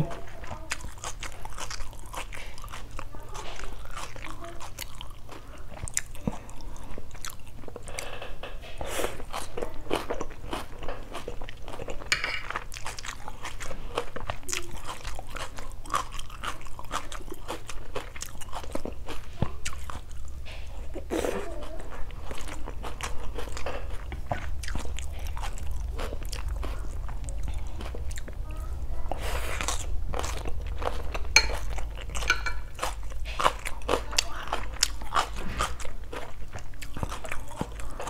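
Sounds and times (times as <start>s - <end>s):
close chewing with wet crunches: 0.0s - 38.0s.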